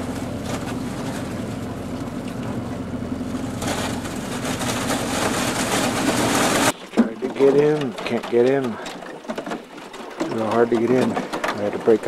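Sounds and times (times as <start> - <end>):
ice crackling against hull: 0.0 - 12.0
outboard motor running: 0.0 - 12.0.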